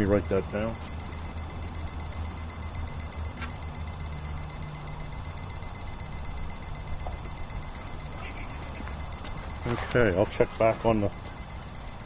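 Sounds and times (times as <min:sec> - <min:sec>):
thermometer alarm beeping: 0:00.0 - 0:12.0.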